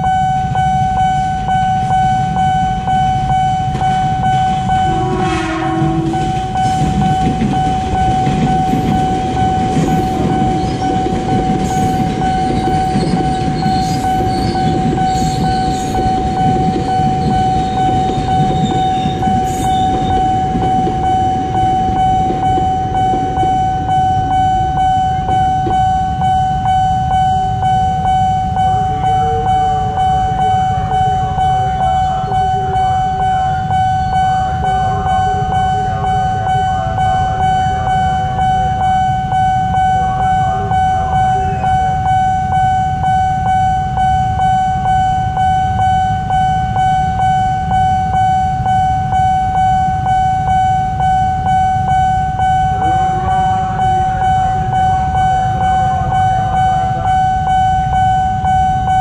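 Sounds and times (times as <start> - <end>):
electric train passing: 0.0 - 59.0
level crossing warning alarm: 0.0 - 59.0.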